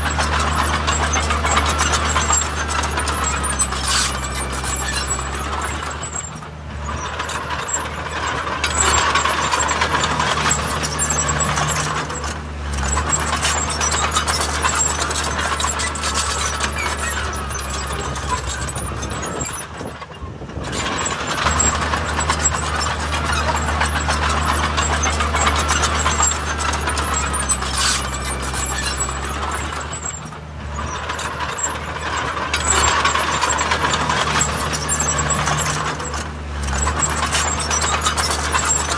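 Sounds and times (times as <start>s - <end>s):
diesel machinery engine: 0.0s - 38.9s
metallic clatter: 0.0s - 38.9s.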